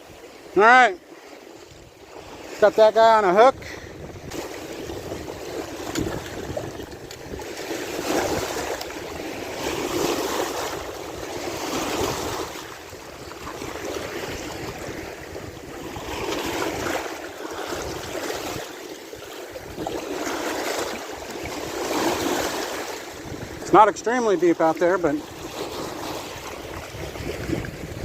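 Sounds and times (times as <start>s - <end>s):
small waves washing against a wall: 0.0s - 28.0s.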